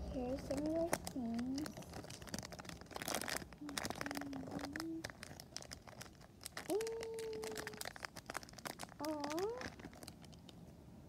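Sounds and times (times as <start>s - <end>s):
plastic bags crinkling: 0.0s - 10.6s.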